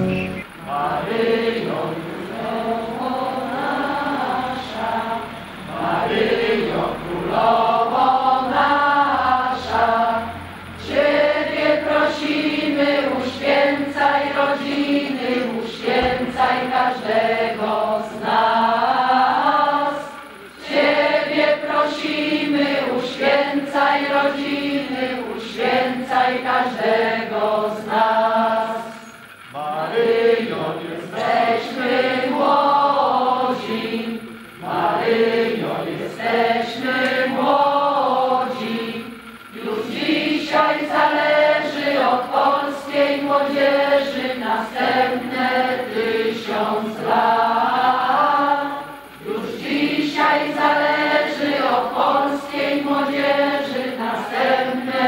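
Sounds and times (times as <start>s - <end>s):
crowd singing a hymn: 0.0s - 55.0s.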